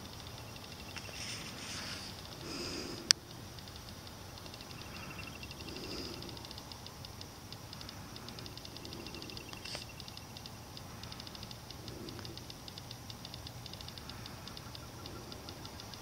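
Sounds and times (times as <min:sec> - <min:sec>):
night insects clicking: 0:00.0 - 0:16.0.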